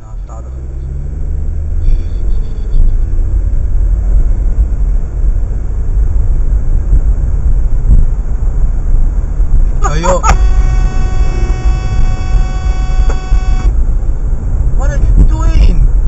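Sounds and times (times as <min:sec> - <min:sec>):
car engine accelerating: 0:00.0 - 0:15.2
road rumble: 0:00.0 - 0:16.0.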